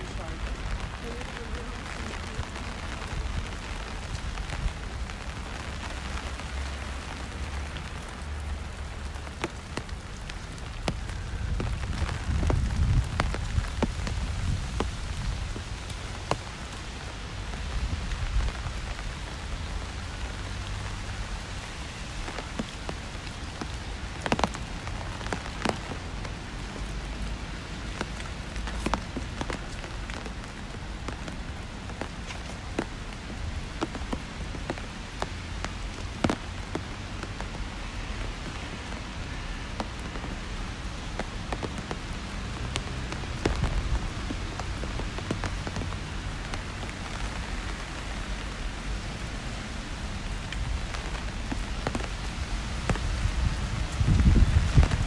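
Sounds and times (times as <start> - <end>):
rain on pavement: 0.0 - 55.0.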